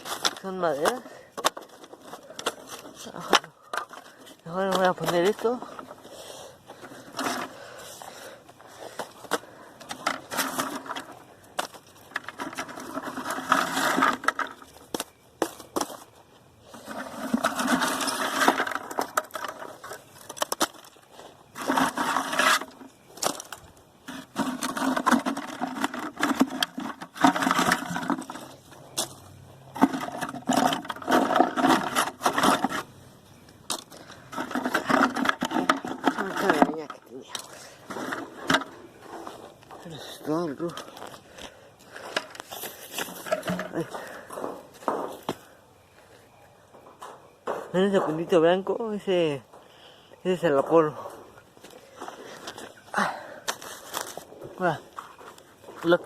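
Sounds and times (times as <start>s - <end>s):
firewood scraping and knocking: 0.0s - 56.0s.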